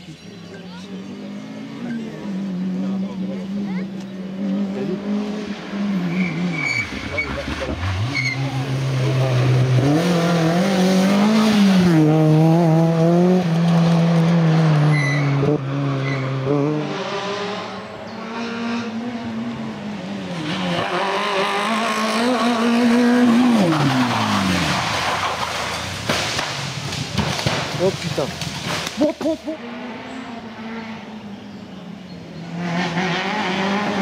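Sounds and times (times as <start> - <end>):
rally car engine revving: 0.1 - 34.0.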